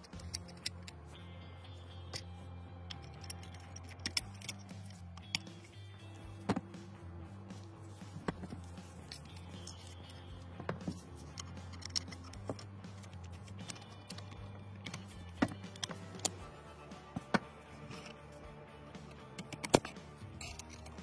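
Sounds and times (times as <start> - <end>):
metal rifle parts clicking: 0.0 - 1.2, 1.8 - 6.6, 8.0 - 21.0.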